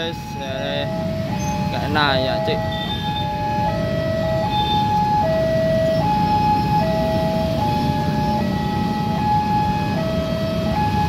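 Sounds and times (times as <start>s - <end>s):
road traffic rumble: 0.0s - 11.0s
two-tone level-crossing alarm: 0.0s - 11.0s.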